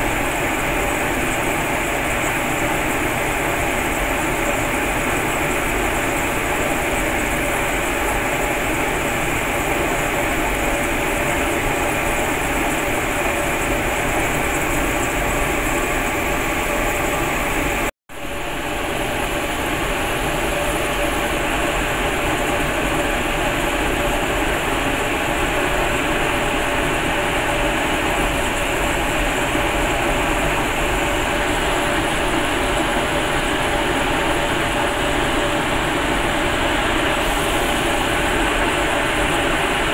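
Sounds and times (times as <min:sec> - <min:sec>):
furnace burner rushing noise: 0:00.0 - 0:39.9.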